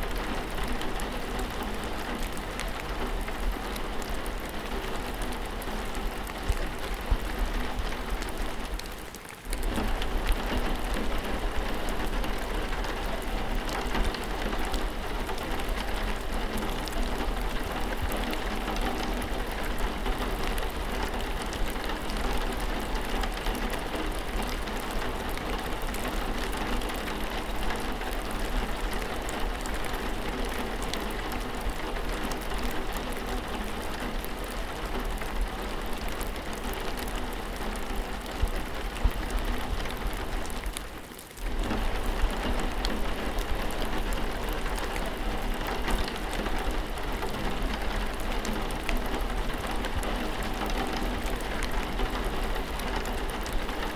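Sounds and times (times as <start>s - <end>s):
rain pattering on surfaces: 0.0s - 53.9s.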